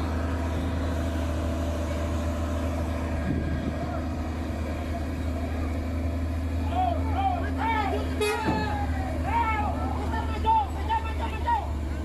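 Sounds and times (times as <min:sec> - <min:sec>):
heavy truck engine droning: 0:00.0 - 0:12.0.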